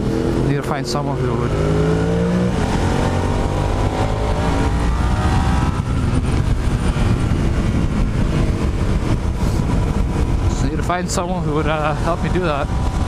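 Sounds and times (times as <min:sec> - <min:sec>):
heavy wind noise: 0:00.0 - 0:13.0
motorcycle engine accelerating: 0:00.0 - 0:13.0.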